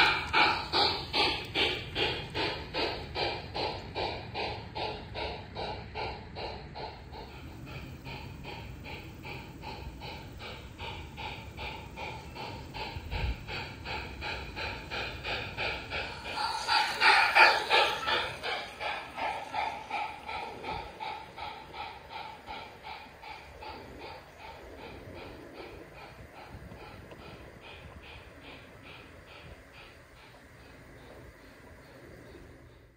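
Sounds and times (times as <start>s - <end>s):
model train steam chuffing: 0.0s - 32.9s.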